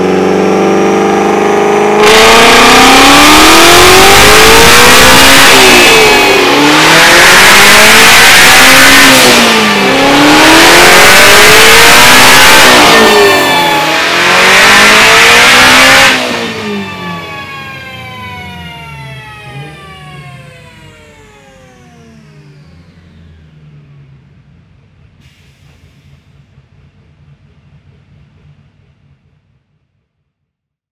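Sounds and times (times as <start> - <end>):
car engine revving on dyno: 0.0 - 28.5.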